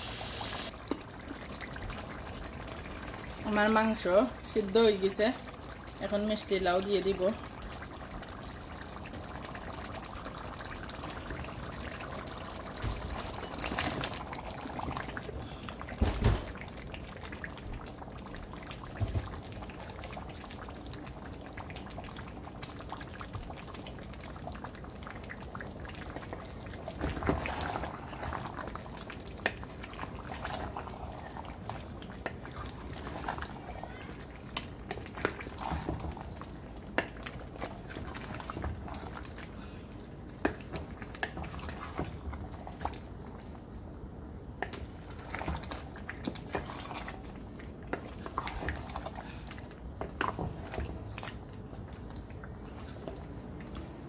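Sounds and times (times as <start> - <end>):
curry bubbling in a pot: 0.2 - 54.0.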